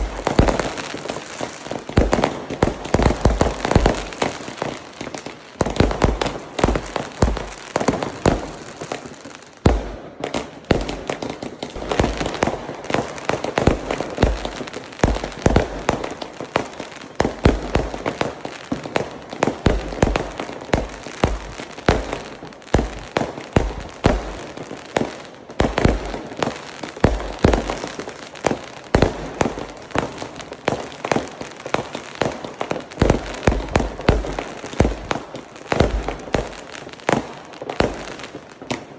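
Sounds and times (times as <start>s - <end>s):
fireworks booming and crackling: 0.0s - 38.9s.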